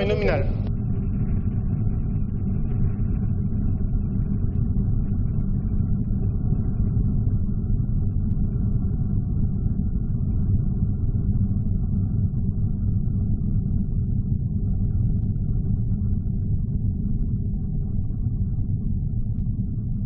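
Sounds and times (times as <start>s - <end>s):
rocket engine low rumble: 0.0s - 20.0s.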